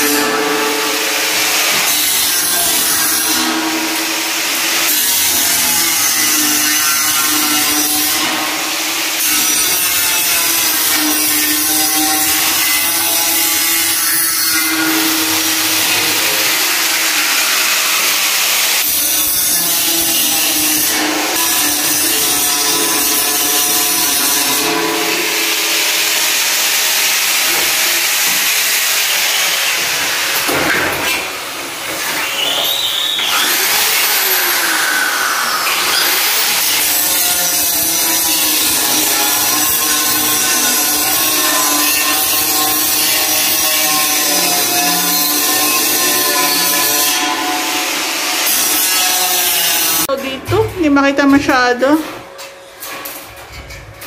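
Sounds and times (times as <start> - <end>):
power tool running: 0.0 - 50.1.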